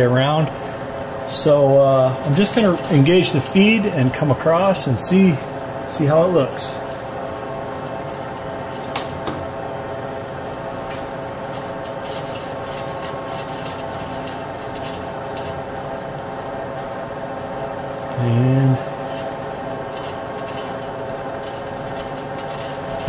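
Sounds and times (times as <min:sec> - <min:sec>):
metal lathe humming: 0:00.0 - 0:23.0.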